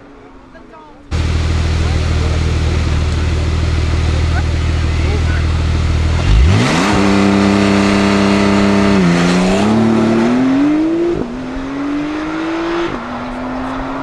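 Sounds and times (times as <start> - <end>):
sports car engine revving: 1.1 - 14.0.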